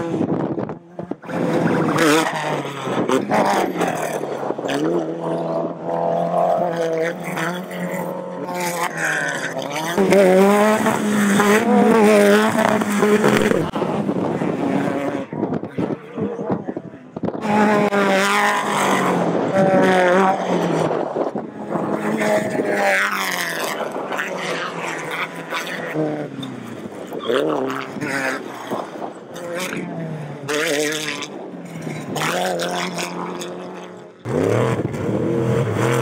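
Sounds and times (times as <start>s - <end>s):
race vehicle engines revving: 0.0s - 36.0s.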